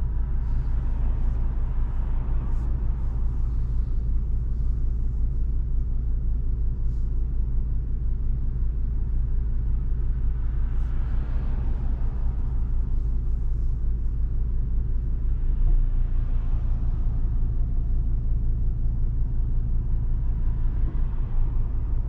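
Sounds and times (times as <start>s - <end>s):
tyre and road noise: 0.0s - 7.9s, 9.3s - 22.0s
car engine in cabin: 0.0s - 22.0s.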